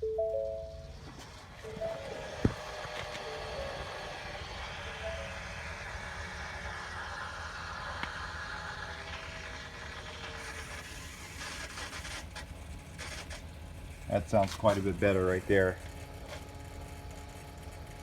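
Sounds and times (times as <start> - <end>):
electric fuel pump running: 0.3 - 18.0.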